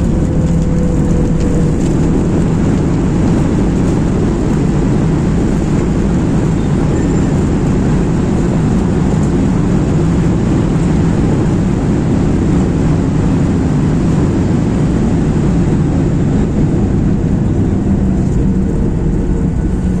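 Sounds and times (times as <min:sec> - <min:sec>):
jet cabin engine rumble: 0:00.0 - 0:20.0.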